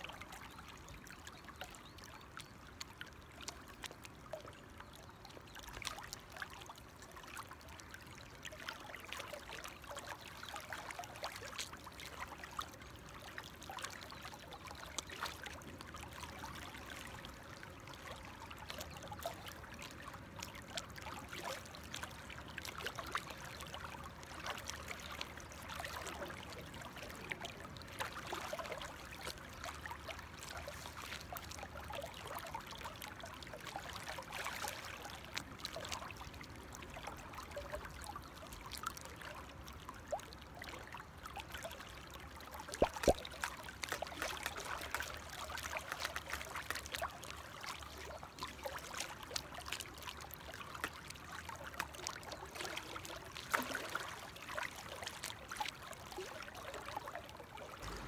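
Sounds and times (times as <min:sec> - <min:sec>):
shallow river trickling: 0:00.0 - 0:58.0.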